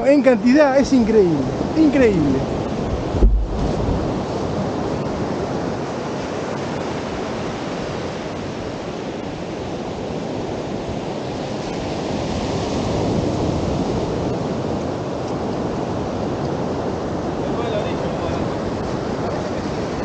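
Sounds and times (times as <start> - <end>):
ocean waves washing onto beach: 0.0 - 20.0.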